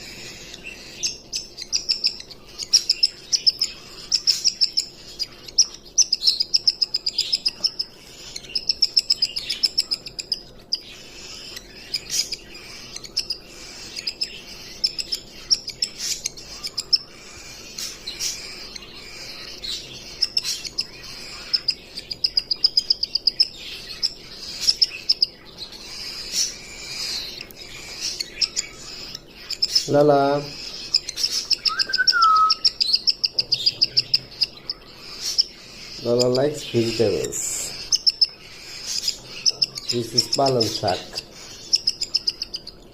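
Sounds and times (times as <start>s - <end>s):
cockatiel chirping: 0.0s - 42.9s.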